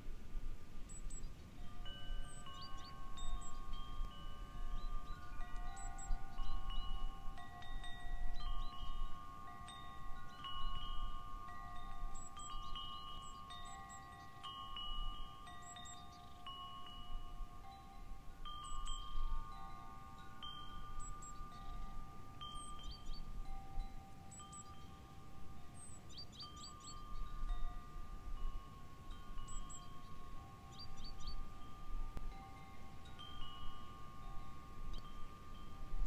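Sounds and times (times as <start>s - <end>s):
wind chimes ringing: 0.8s - 36.0s.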